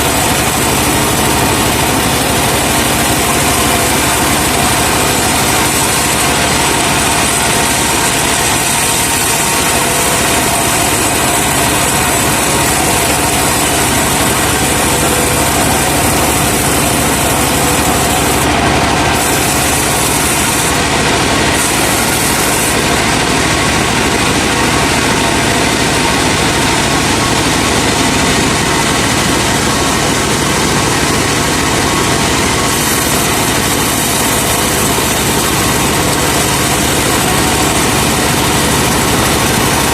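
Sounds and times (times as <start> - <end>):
sawmill engine running loudly: 0.0 - 39.9.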